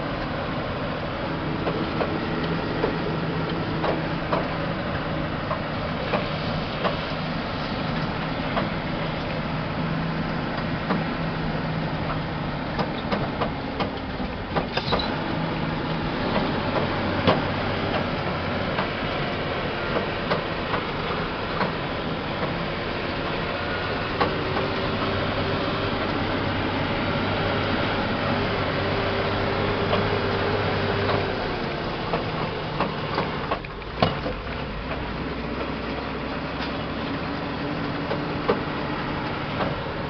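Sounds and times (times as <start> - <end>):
cab and load rattling: 0.0 - 40.0
truck diesel engine running: 0.0 - 40.0.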